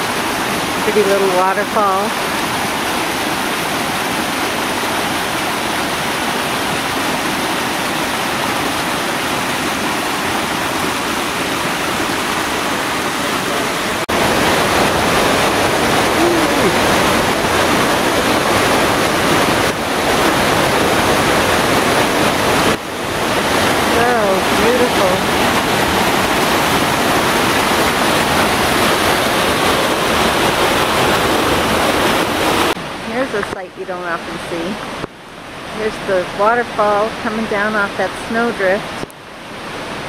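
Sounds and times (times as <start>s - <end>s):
creek rushing over rocks: 0.0s - 40.0s.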